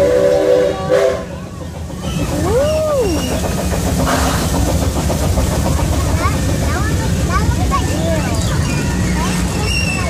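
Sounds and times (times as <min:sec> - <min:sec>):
amusement ride rumbling: 0:00.0 - 0:10.0.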